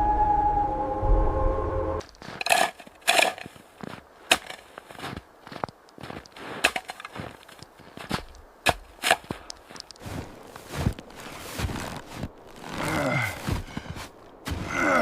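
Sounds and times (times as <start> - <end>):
irregular crunches and cracks: 2.0 - 15.0.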